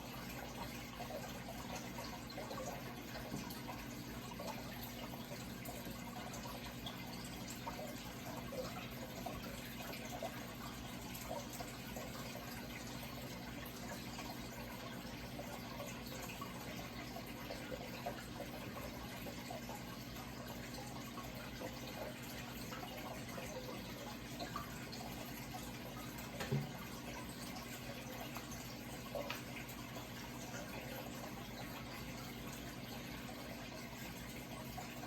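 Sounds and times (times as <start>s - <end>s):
water trickling and bubbling: 0.0s - 35.0s.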